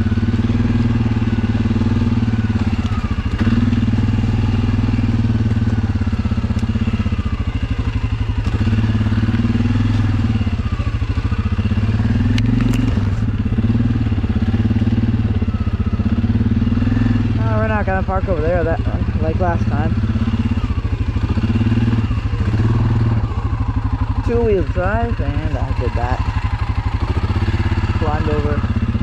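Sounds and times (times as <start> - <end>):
atv engine running at low revs: 0.0 - 29.0.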